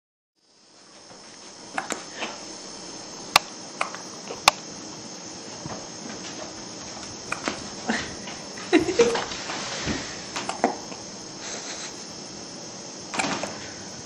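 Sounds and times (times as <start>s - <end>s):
high-pitched whine: 0.5s - 14.0s.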